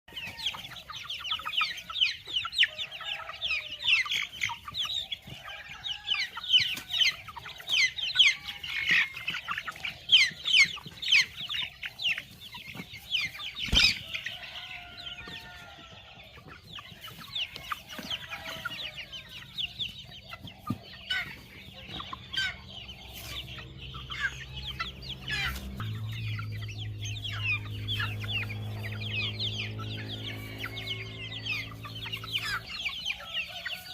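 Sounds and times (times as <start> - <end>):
hens clucking and chirping: 0.1 - 33.9.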